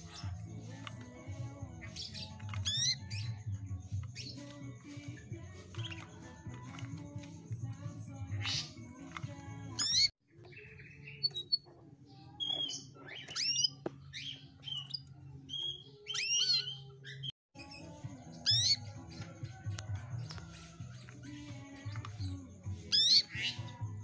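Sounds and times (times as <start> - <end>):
canary chirping and calling: 0.0 - 24.0.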